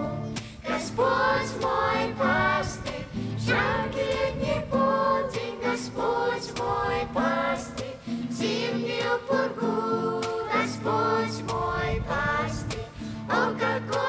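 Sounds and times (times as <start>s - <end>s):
song with singing voices: 0.0s - 14.0s.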